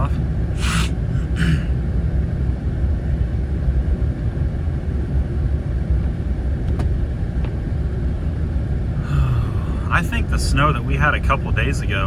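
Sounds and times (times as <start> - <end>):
vehicle rumbling on road: 0.0 - 12.0.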